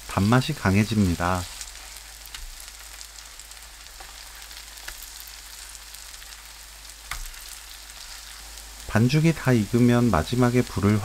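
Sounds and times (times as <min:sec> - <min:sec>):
faint crackles: 0:00.0 - 0:10.9
pancakes sizzling in oil: 0:00.0 - 0:11.0.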